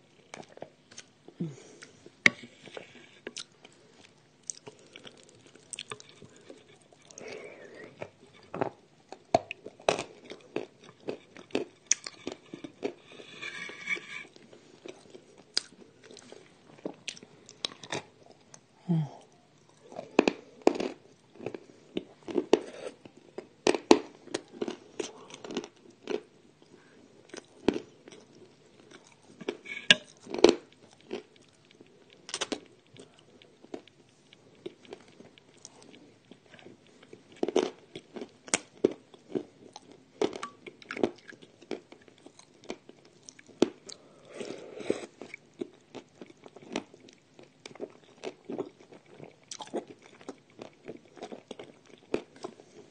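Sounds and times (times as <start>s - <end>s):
soft chewing: 0.0s - 52.9s.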